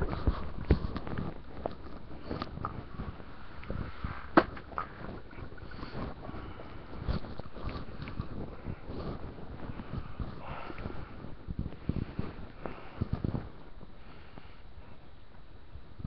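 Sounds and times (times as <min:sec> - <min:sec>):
microphone handling noise: 0:00.0 - 0:16.0.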